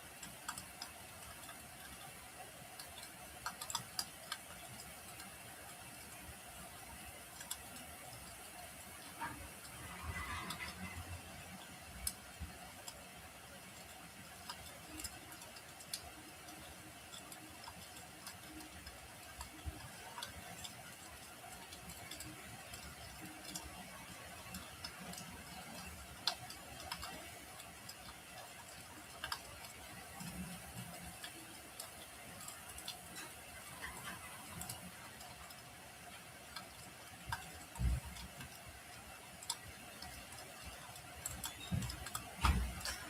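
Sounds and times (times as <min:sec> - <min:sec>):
low fire hiss: 0:00.0 - 0:43.0
wood fire popping and snapping: 0:00.0 - 0:43.0.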